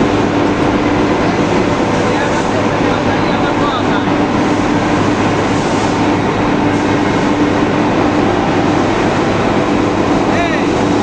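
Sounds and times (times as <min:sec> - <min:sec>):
rolling mill machinery din: 0:00.0 - 0:11.0.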